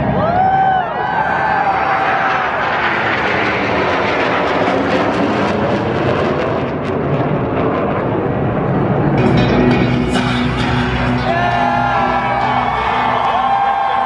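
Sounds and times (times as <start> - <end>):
jets flying over: 0.0 - 14.0.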